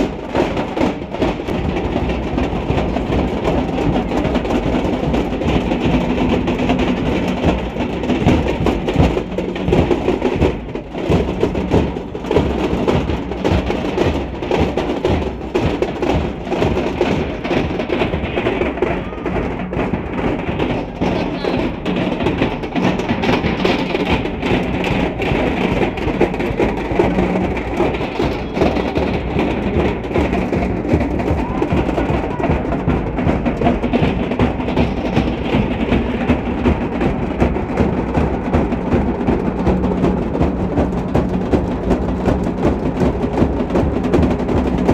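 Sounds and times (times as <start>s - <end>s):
large barrel drums beaten fast: 0.0s - 44.9s.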